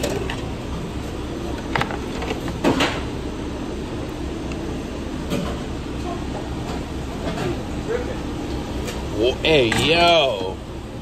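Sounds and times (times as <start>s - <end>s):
kitchen equipment and ventilation hum: 0.0s - 11.0s.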